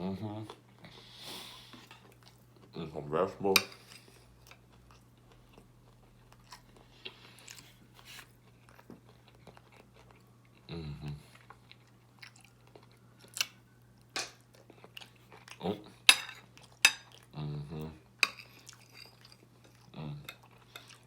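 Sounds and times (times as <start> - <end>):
low electrical hum: 0.0 - 21.0
person chewing food: 0.5 - 2.8, 3.7 - 21.0.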